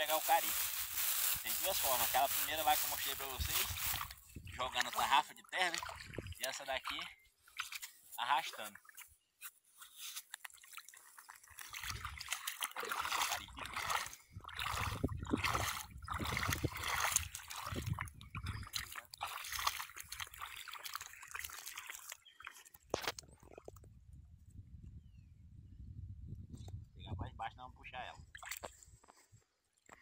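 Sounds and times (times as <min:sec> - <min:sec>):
river water sloshing and trickling: 0:00.0 - 0:23.9, 0:28.3 - 0:29.2.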